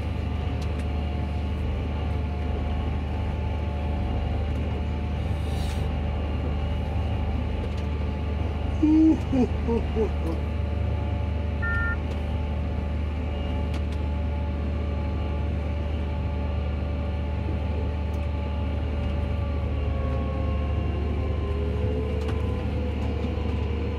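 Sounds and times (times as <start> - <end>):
tractor engine drone: 0.0 - 23.9.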